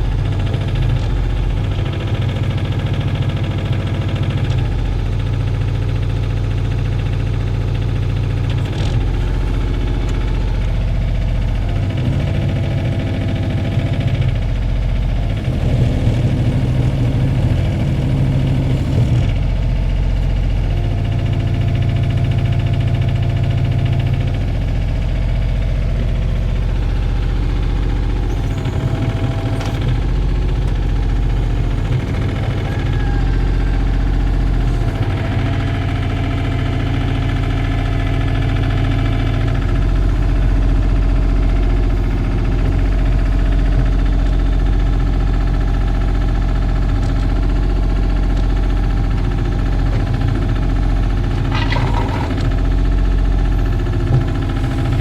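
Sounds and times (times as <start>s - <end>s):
mini excavator diesel engine running: 0.0s - 55.0s.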